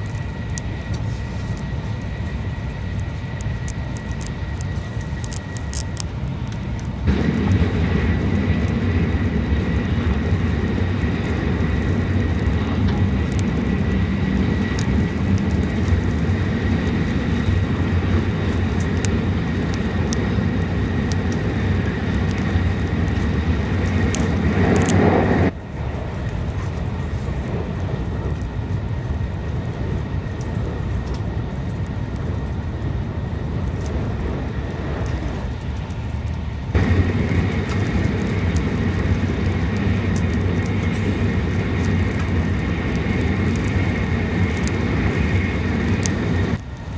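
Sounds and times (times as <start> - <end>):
train rumble inside cabin: 0.0 - 46.9.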